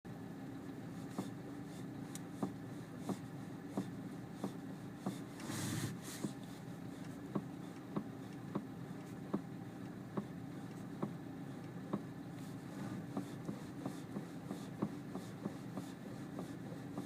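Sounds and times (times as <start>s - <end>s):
steady low hum: 0.1s - 17.0s
steering knocking: 2.1s - 17.0s.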